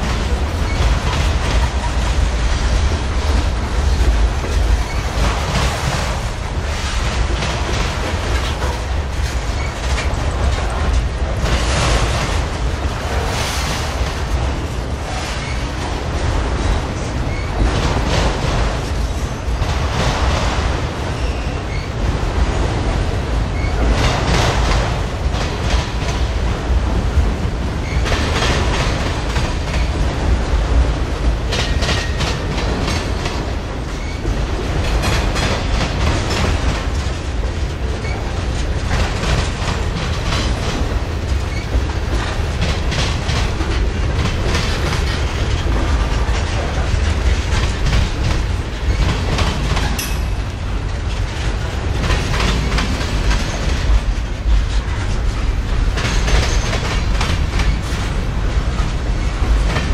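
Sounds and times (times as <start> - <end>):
low train rumble: 0.0 - 59.9
train wheels clattering on rails: 0.0 - 59.9.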